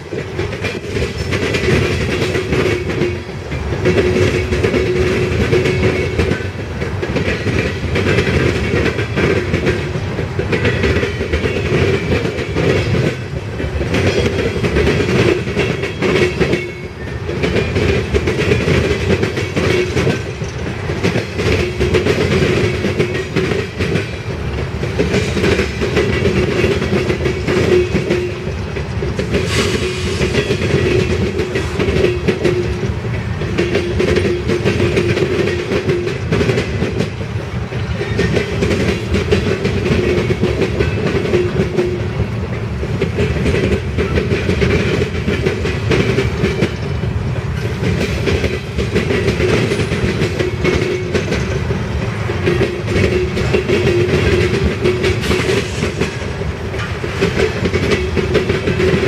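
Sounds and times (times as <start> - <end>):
train wheels rumbling on rail: 0.0 - 59.0
wheels clacking over rail joints: 0.0 - 59.0.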